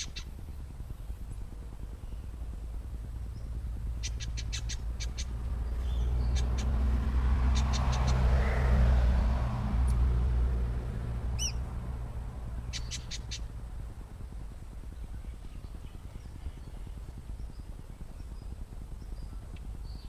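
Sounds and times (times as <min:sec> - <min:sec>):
vehicle passing by: 0:00.0 - 0:18.1
birds chipping and chirping: 0:00.0 - 0:20.0.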